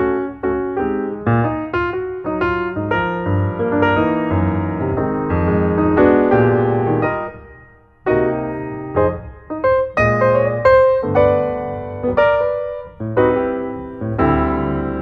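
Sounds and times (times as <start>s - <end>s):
slow solo piano melody: 0.0s - 15.0s.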